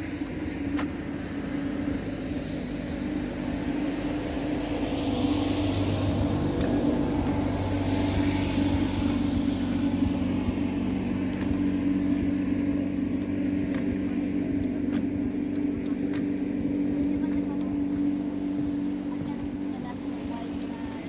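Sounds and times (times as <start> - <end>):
engine droning steadily: 0.0 - 21.0.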